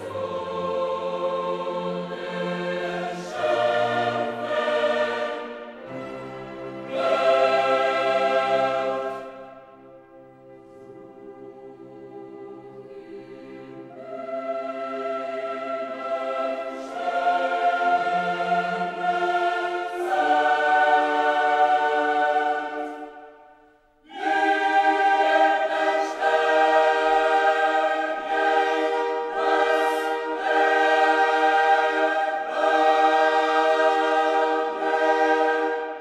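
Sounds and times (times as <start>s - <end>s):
choir singing held chords: 0.0s - 36.0s.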